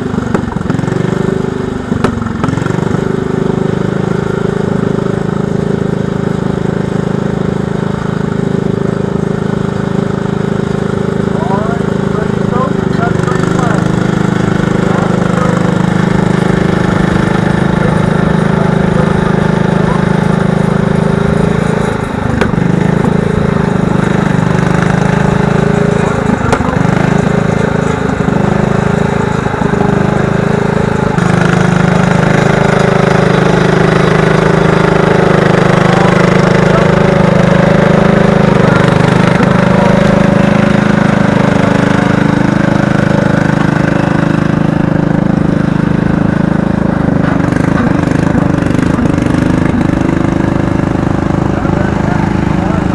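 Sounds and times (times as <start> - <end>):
garden tractor engine running: 0.0 - 52.9.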